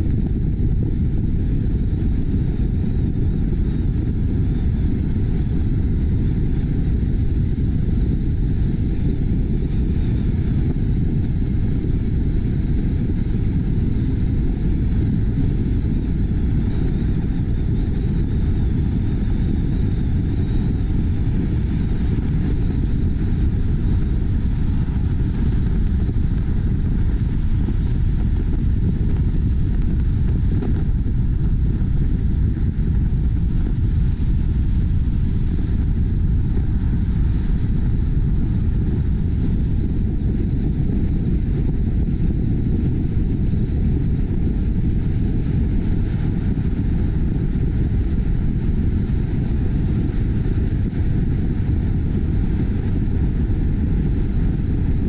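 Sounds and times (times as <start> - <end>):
car wind and road noise: 0.0 - 55.0.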